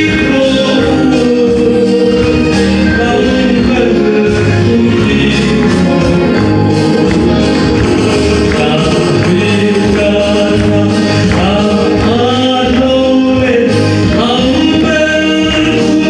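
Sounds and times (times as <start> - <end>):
instrumental accompaniment: 0.0 - 16.0
man singing into microphone: 0.0 - 16.0.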